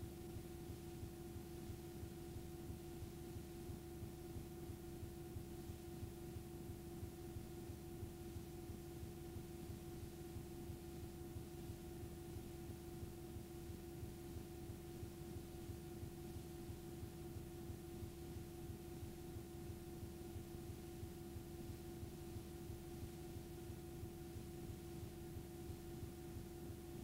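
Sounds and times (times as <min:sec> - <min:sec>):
electrical hum with mid-pitched tone: 0:00.0 - 0:27.0.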